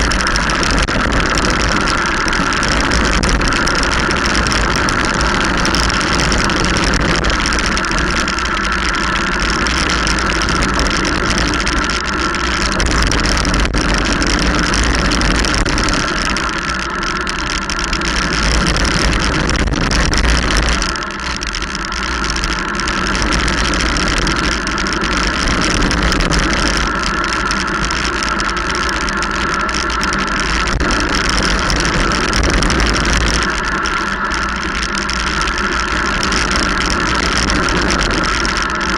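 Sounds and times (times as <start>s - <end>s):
tyre noise on wet road: 0.0s - 38.9s
wind rushing over microphone: 0.0s - 38.9s.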